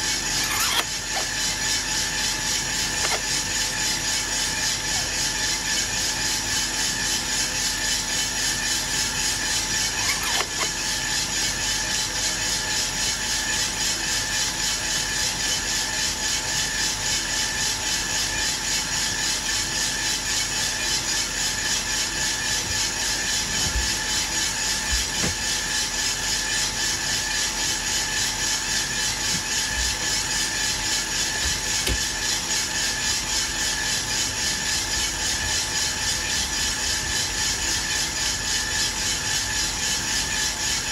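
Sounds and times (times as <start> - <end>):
coffee roaster whirring: 0.0 - 40.9.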